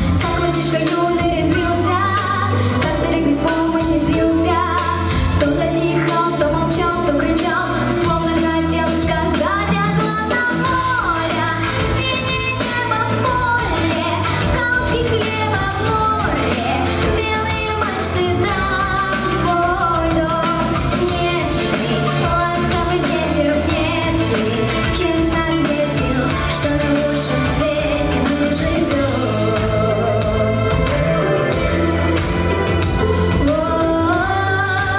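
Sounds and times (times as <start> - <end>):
girl singing: 0.0 - 30.5, 33.3 - 34.9
instrumental accompaniment: 0.0 - 34.9.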